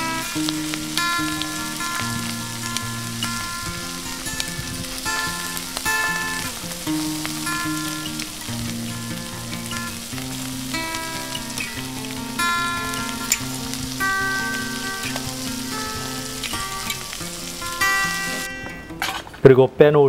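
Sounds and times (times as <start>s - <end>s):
meat sizzling on a griddle: 0.0s - 18.5s.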